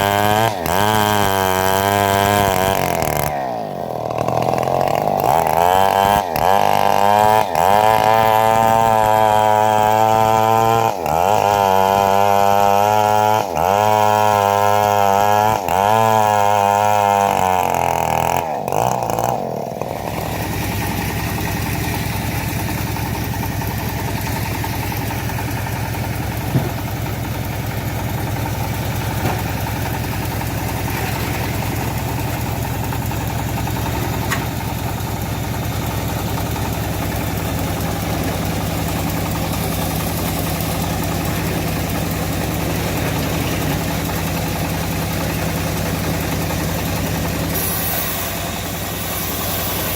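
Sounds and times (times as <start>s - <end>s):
engine running under load: 0.0s - 49.9s.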